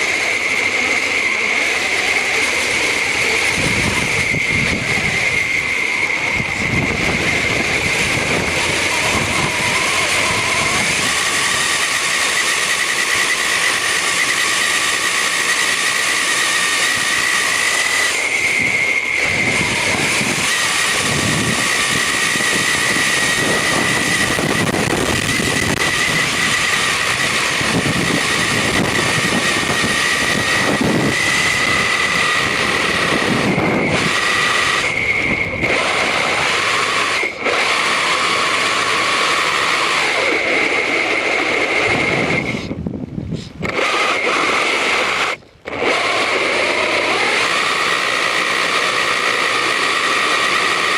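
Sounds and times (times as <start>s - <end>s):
toy car drivetrain whine: 0.0s - 50.9s.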